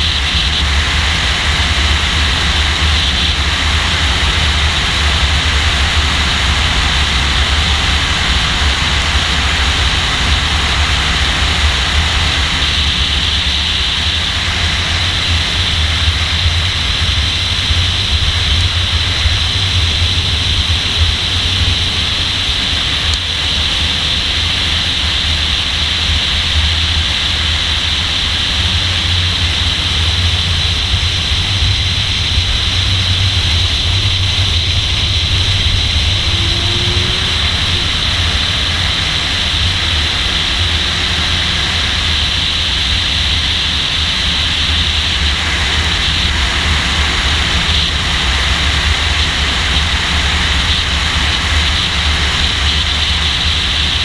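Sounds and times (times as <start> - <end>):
car engine drone: 0.0 - 54.0
wind and road noise: 0.0 - 54.0.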